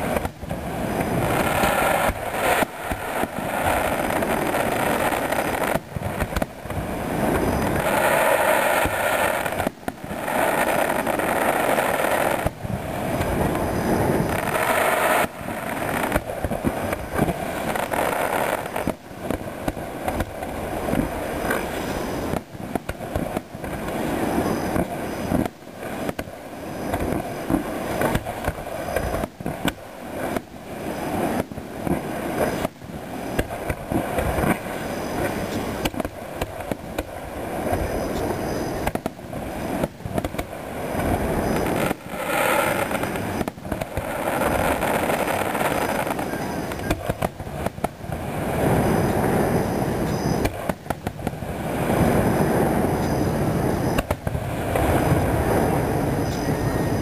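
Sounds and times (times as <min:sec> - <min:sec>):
fireworks bangs and crackle: 0:00.0 - 0:57.0.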